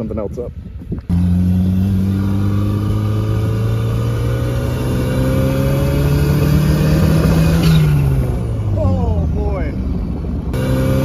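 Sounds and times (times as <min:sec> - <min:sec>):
turbocharged car engine accelerating: 0:01.1 - 0:08.9, 0:09.9 - 0:11.0.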